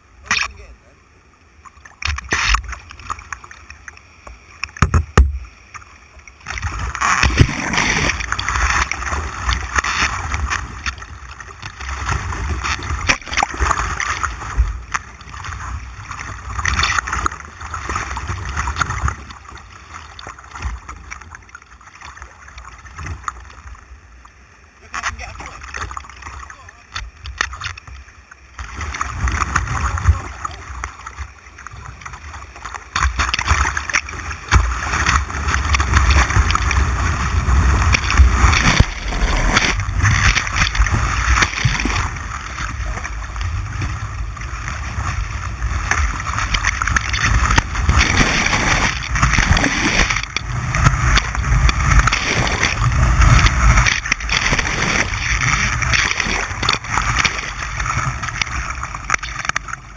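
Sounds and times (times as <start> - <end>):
water buffeting the microphone: 0.0 - 59.9
white water rushing and splashing: 0.0 - 59.9.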